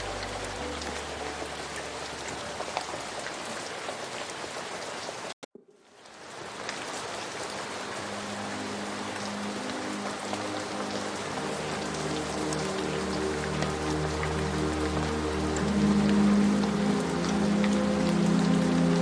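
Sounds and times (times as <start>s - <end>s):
soft slow ambient music: 0.0s - 5.0s, 5.6s - 19.0s
rain patter: 0.0s - 19.0s.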